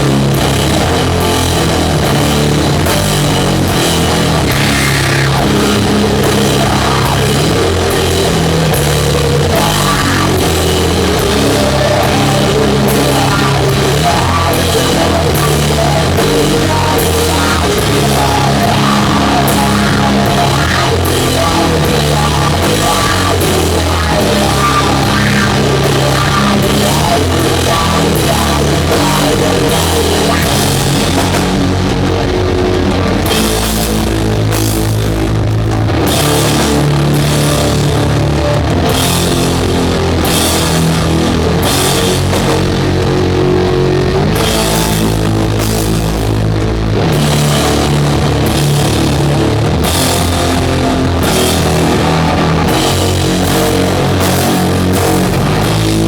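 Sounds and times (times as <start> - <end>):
metal band playing loud: 0.0 - 56.0.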